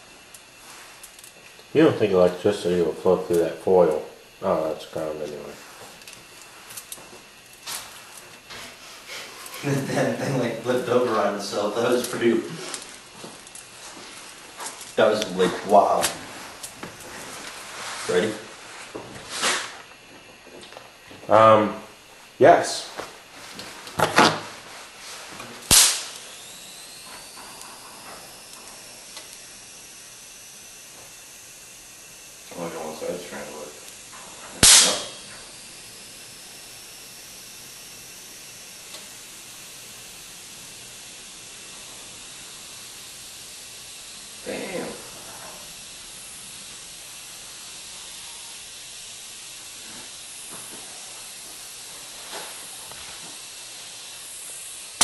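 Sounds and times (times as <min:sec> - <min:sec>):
electric crackle: 0:00.0 - 0:20.0, 0:22.7 - 0:55.0
electrical discharge hissing: 0:00.0 - 0:20.0, 0:21.4 - 0:55.0
high-voltage spark snap: 0:00.0 - 0:55.0.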